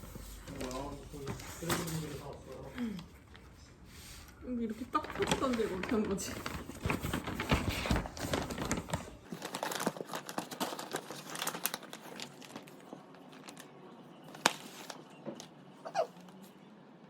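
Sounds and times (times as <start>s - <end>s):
packaging crinkling and rustling: 0.0s - 15.6s.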